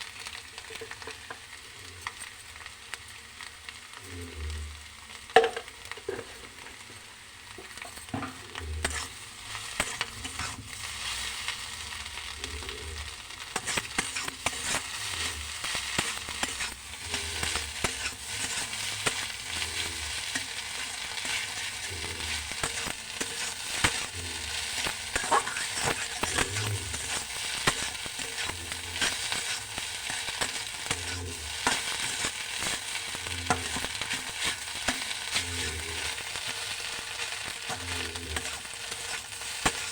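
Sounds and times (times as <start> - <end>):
food sizzling in a pan: 0.0 - 39.9
spatula scraping a pan: 7.6 - 39.9.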